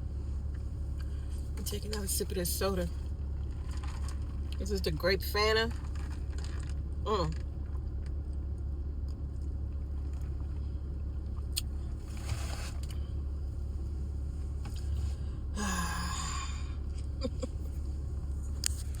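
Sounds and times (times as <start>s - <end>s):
low hum inside car: 0.0s - 19.0s.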